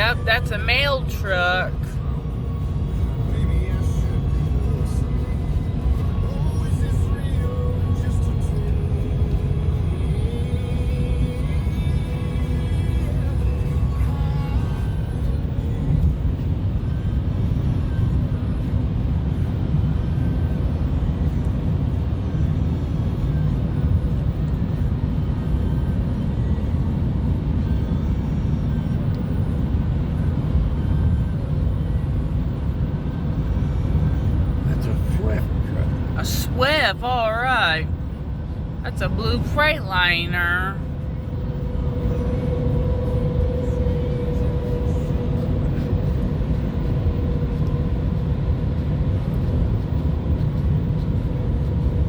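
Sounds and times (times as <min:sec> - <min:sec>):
steady hum: 0:00.0 - 0:52.0
vehicle engine rumble: 0:00.0 - 0:52.0.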